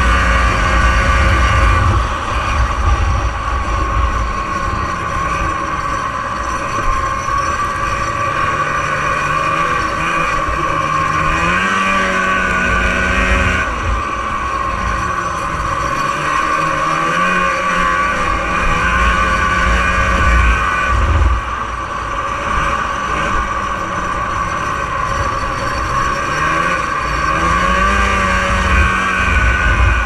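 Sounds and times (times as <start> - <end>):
snowmobile two-stroke engine: 0.0 - 30.0.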